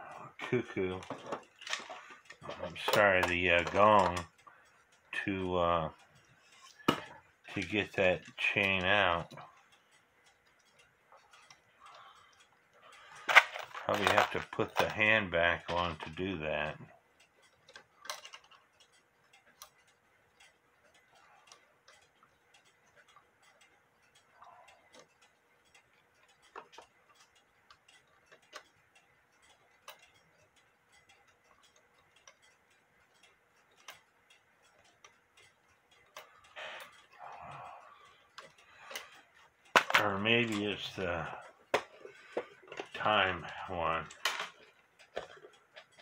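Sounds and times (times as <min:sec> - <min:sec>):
clock movement clicks: 0:00.0 - 0:46.0.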